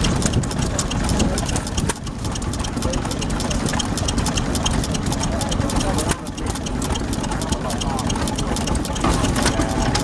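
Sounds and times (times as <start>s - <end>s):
fast regular engine ticking: 0.0s - 10.0s
stationary engine idling: 0.0s - 10.0s.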